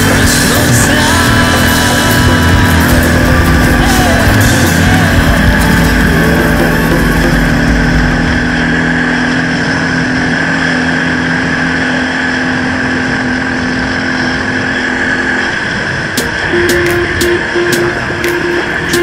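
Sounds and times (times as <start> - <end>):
car driving: 0.0 - 19.0
road noise: 0.0 - 19.0.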